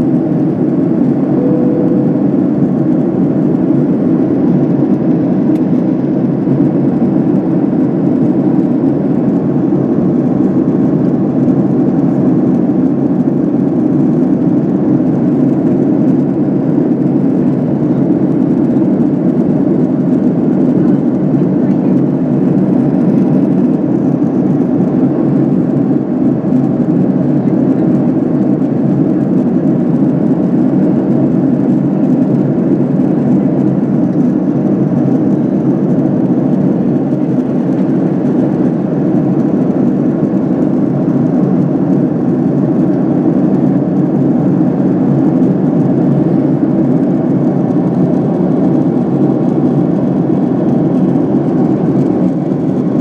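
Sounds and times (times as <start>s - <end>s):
airliner cabin drone: 0.0s - 53.0s.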